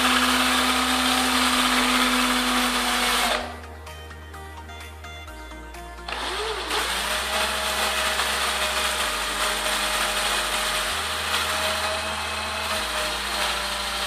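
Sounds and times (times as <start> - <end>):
drill motor whine: 0.0 - 3.6, 6.1 - 14.0.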